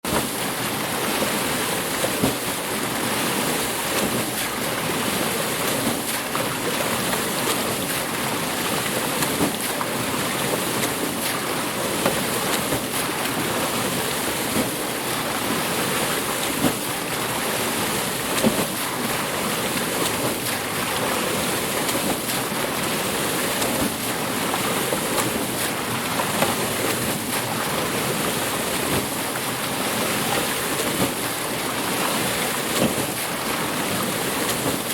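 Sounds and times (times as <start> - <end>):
water splashing at a water wheel: 0.0 - 34.9.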